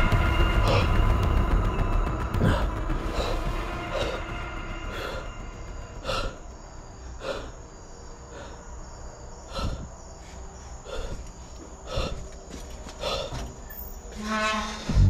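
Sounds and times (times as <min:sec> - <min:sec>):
crickets chirring: 0:02.6 - 0:15.0.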